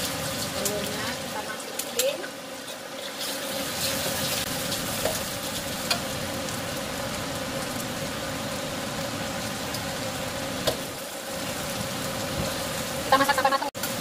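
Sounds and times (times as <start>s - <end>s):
egg sizzling in oil: 0.0s - 14.0s.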